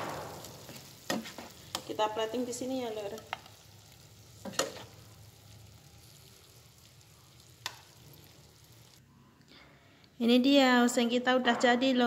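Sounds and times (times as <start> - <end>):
faint steady hiss: 0.0 - 10.3.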